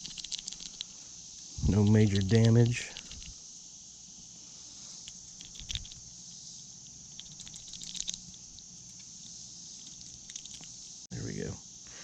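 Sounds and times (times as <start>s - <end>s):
high-pitched insect buzz: 0.0s - 12.0s.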